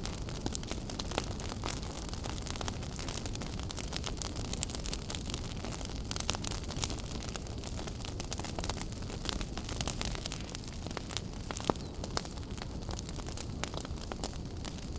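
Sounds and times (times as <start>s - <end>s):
low fire rumble: 0.0s - 14.9s
wood fire crackling and popping: 0.0s - 14.9s.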